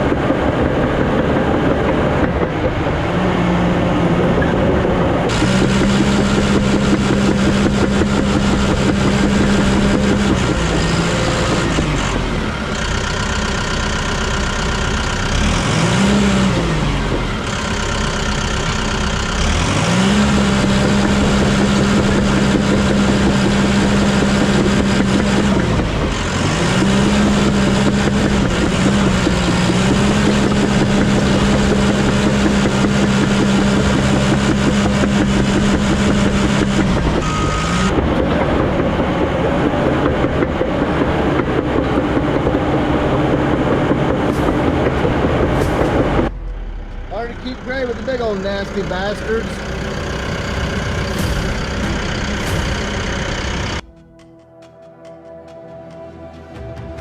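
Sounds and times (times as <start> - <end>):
heavy diesel engine running hard: 0.0 - 53.9.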